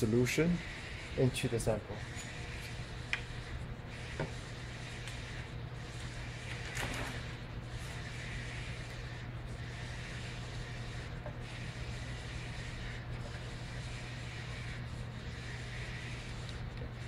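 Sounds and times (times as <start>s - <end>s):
laboratory equipment humming: 0.0s - 17.0s.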